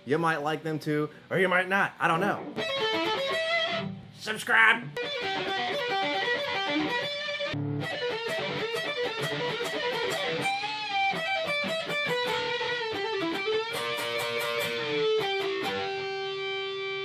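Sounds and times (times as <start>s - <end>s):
electric guitar lead: 2.4s - 4.2s, 4.8s - 17.0s.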